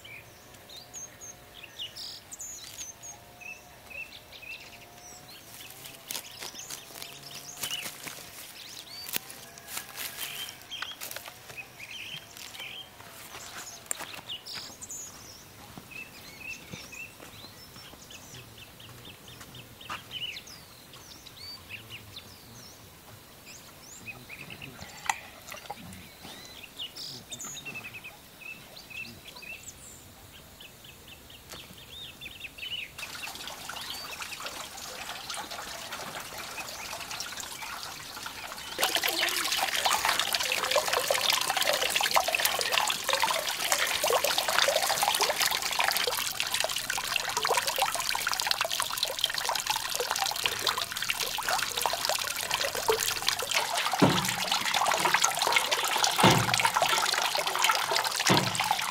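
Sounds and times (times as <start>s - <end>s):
birds chirping: 0.0s - 58.9s
water splashing and trickling: 1.8s - 21.6s, 24.6s - 26.2s, 32.6s - 58.9s.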